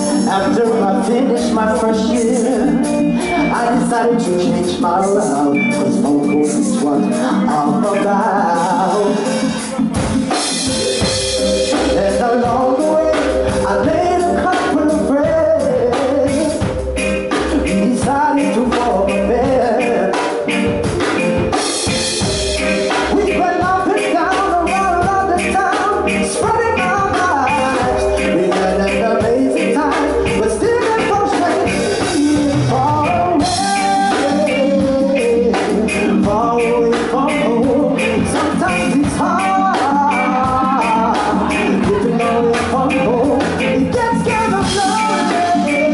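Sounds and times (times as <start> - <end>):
man singing: 0.0 - 45.9
reggae band playing: 0.0 - 45.9.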